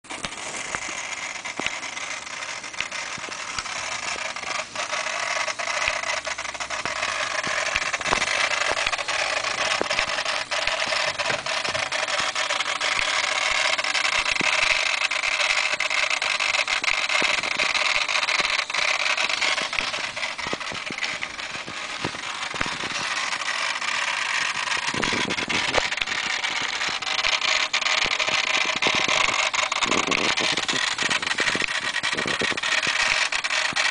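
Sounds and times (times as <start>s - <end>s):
scattered clicks: 0.1s - 33.9s
steady electronic hissing: 0.1s - 33.9s.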